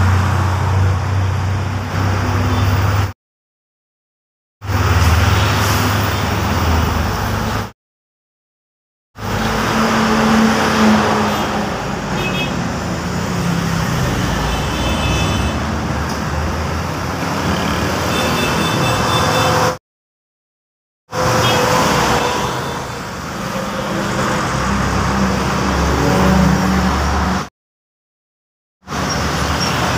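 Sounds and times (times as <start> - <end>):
trucks and motorcycles passing: 0.0 - 3.2, 4.6 - 7.7, 9.2 - 19.8, 21.1 - 27.5, 28.9 - 29.9.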